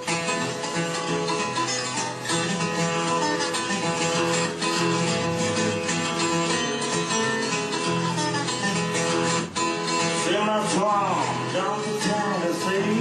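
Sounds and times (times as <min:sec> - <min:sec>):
fingerpicked blues guitar: 0:00.0 - 0:13.0.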